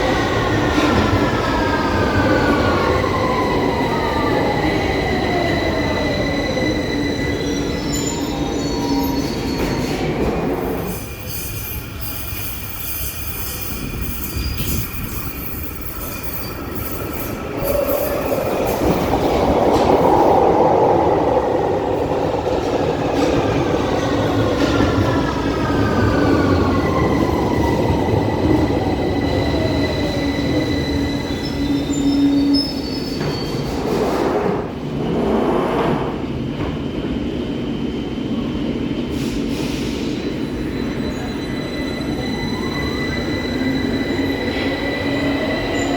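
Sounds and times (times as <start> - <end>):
rail and wheel noise: 0.0 - 45.9.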